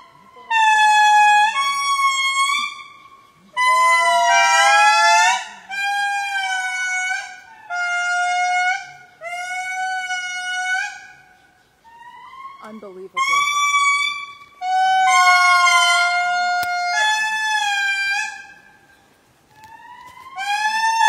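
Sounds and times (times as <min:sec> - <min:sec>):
lemur wailing calls: 0:00.0 - 0:21.0.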